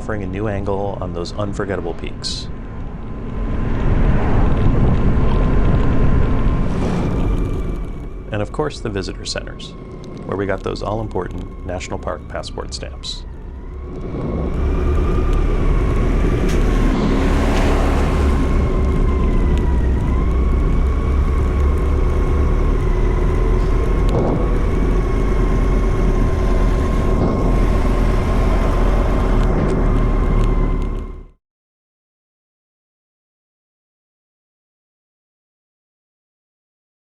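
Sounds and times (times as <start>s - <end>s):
motorcycle engine whine: 0.0s - 31.4s
wind rumble on microphone: 0.1s - 31.3s.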